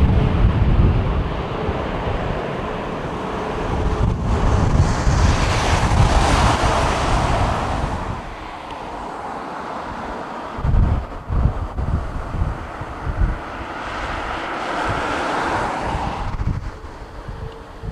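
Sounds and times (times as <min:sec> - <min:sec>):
jet airliner engine noise: 0:00.0 - 0:17.9
wind buffeting microphone: 0:00.0 - 0:17.9.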